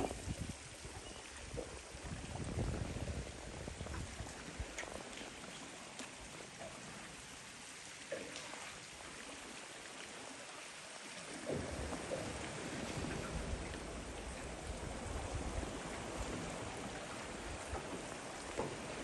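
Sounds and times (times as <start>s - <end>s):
small waves lapping on rocks: 0.0s - 19.0s.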